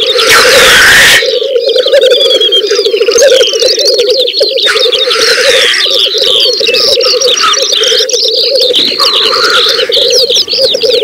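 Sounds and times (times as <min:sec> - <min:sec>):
bubbling cooing grouse chorus: 0:00.0 - 0:11.0
grouse hissing calls: 0:00.0 - 0:11.0.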